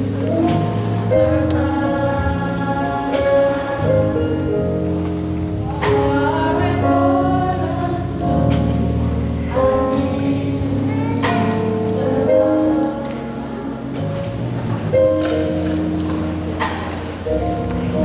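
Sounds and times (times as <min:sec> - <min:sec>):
choir singing gospel: 0:00.0 - 0:18.0.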